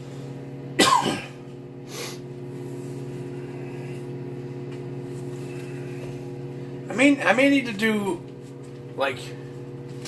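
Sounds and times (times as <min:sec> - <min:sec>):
microwave oven humming: 0:00.0 - 0:10.0.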